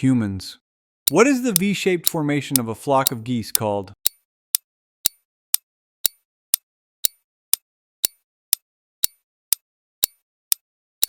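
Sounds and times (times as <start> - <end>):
countdown timer ticking: 1.1 - 10.2.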